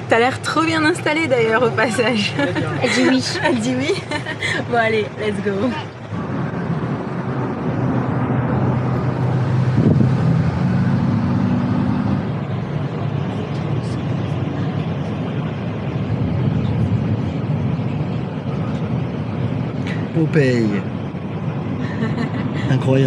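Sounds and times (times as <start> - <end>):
car cabin road noise: 0.0 - 23.0.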